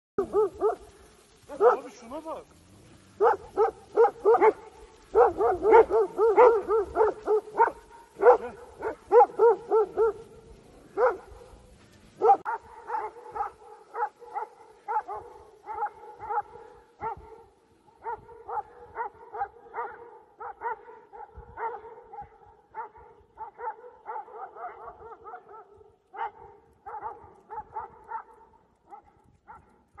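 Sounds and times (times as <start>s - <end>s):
dogs barking: 0.2s - 2.0s, 3.1s - 30.0s.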